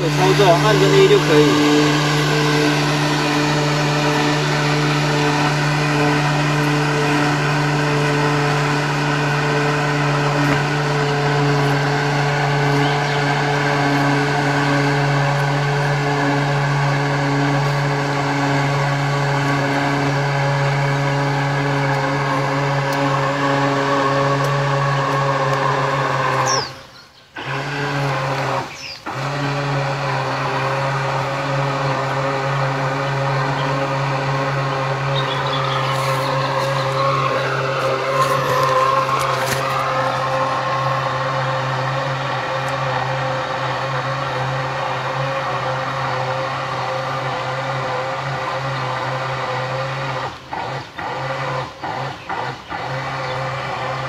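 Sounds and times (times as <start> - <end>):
electric motor whining hum: 0.0 - 54.0.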